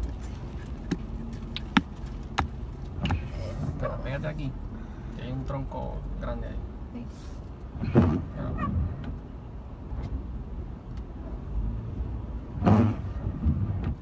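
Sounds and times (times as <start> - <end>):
car driving slowly: 0.0 - 14.0.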